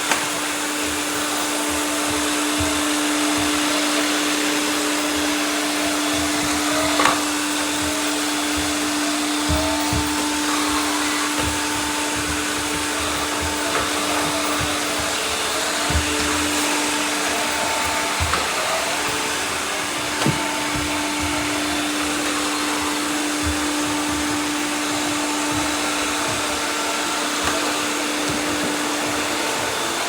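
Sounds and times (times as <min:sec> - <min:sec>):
robot vacuums whirring: 0:00.0 - 0:30.0.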